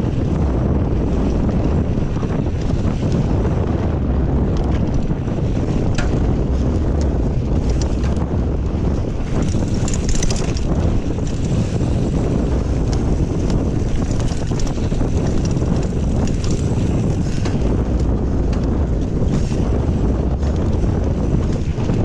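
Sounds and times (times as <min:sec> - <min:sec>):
bike clicks and rattles: 0:00.0 - 0:22.0
wind buffeting microphone: 0:00.0 - 0:22.0.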